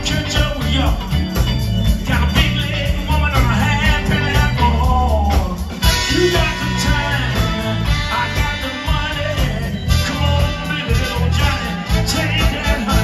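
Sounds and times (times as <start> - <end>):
man singing into a microphone: 0.0 - 1.1, 2.0 - 13.0
drums: 0.0 - 13.0
electric guitar: 0.0 - 13.0
keyboard playing: 0.0 - 13.0.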